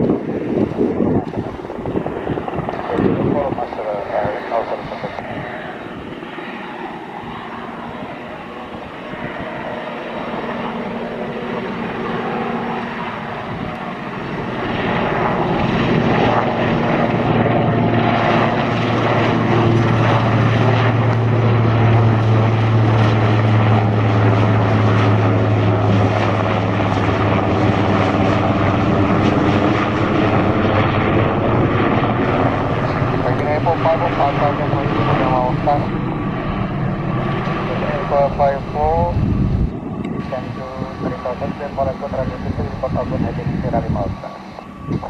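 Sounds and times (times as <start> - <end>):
aircraft engines running: 0.0 - 45.0.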